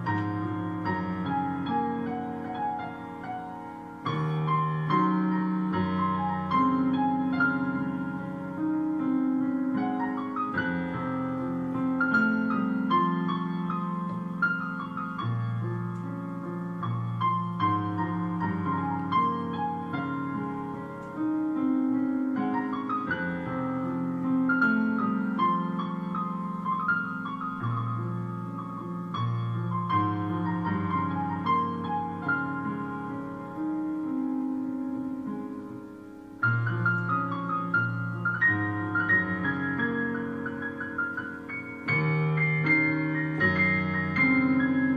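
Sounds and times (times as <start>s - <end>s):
gentle piano music: 0.0s - 44.9s.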